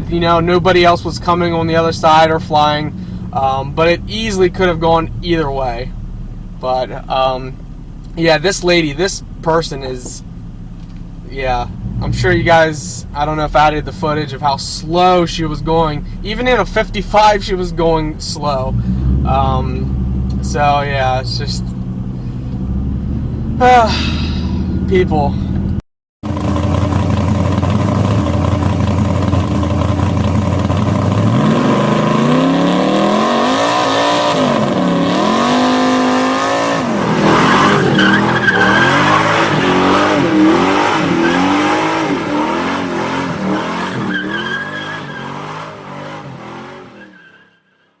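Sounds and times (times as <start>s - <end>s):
car engine idling and revving: 0.0s - 47.5s.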